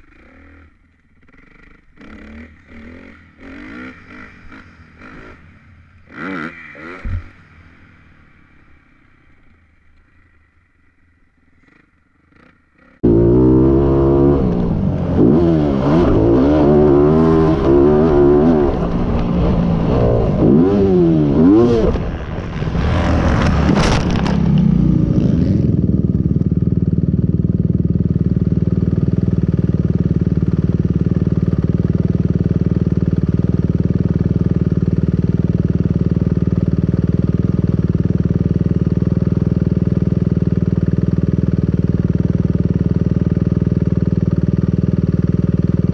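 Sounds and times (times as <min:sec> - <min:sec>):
dirt bike engine revving: 0:00.0 - 0:07.6, 0:11.6 - 0:45.9
dirt bike engine idling: 0:00.0 - 0:22.6, 0:23.4 - 0:45.9.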